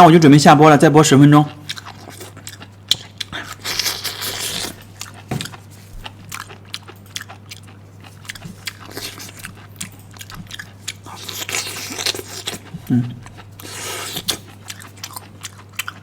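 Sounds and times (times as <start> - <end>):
low electrical hum: 0.0 - 16.0
crunching and chewing: 1.2 - 16.0.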